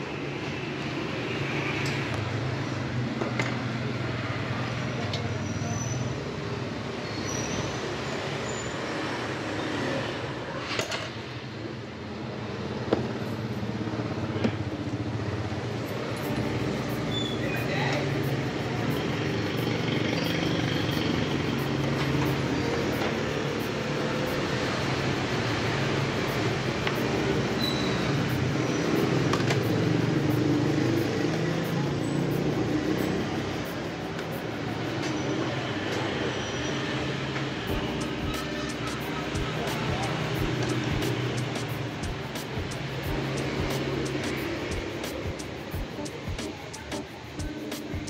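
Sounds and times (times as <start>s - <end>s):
street traffic engines: 0.0s - 48.0s.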